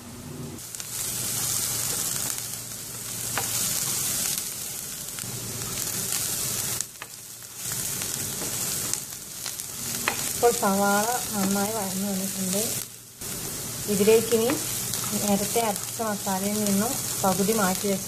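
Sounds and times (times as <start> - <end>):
onions sizzling in oil: 0.6 - 18.0.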